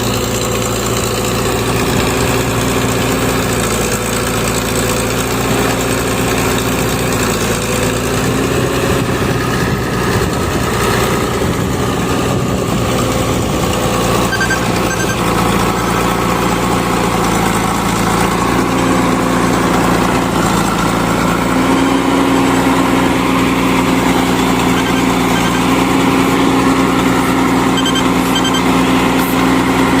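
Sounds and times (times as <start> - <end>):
diesel machinery engine running: 0.0 - 30.0.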